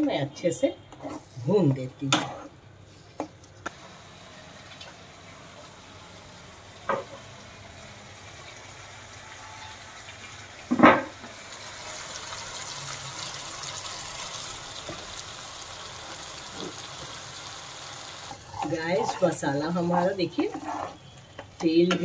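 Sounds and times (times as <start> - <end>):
masala sizzling in oil: 3.6 - 22.0.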